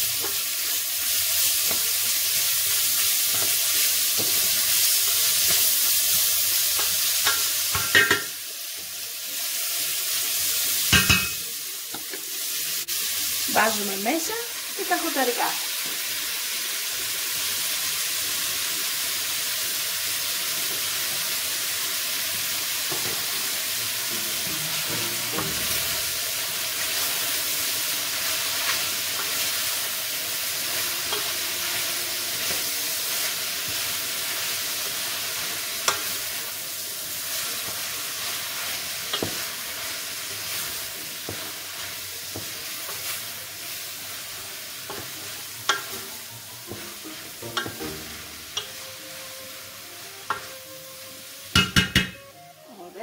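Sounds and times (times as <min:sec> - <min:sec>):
vegetables sizzling in a pot: 0:00.0 - 0:53.0.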